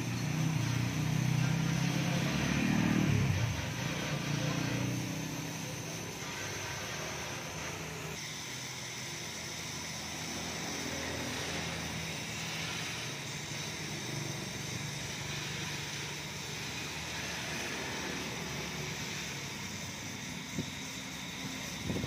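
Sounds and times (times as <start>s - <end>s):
pressure washer pump motor humming: 0.0s - 22.0s
water jet spraying hiss: 0.0s - 22.0s.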